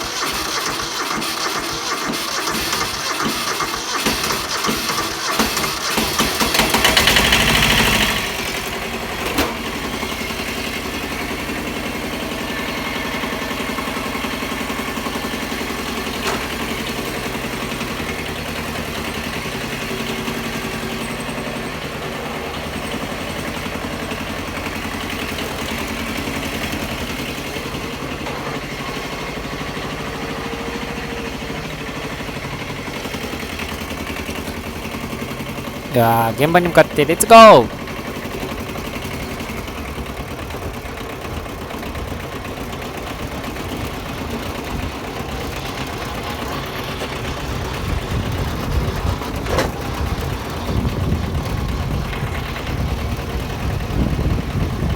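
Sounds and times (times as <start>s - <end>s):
tractor engine cranking and idling: 0.0s - 54.9s.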